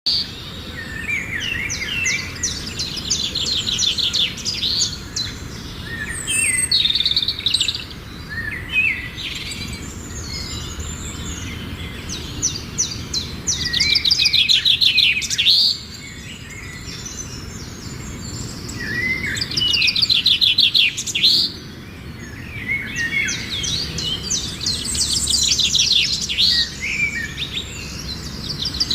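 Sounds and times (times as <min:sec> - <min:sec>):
songbird trilling: 0:00.1 - 0:28.9.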